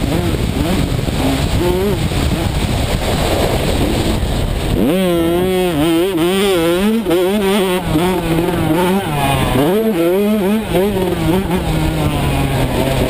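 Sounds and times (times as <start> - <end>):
motocross bike engine revving: 0.0 - 13.0
wind rush: 0.0 - 13.0.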